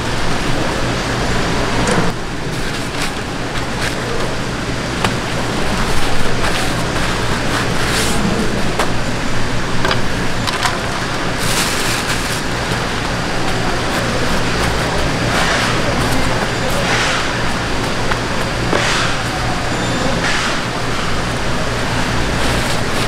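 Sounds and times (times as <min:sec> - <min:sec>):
background chatter: 0:00.0 - 0:23.0
steady low hum: 0:00.0 - 0:23.0
plastic sheet crinkling: 0:02.4 - 0:19.6, 0:20.4 - 0:23.0.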